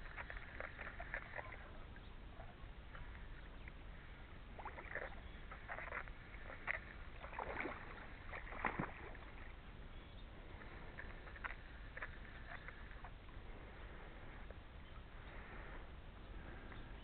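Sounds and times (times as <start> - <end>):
water splashing and lapping: 0.0 - 16.9.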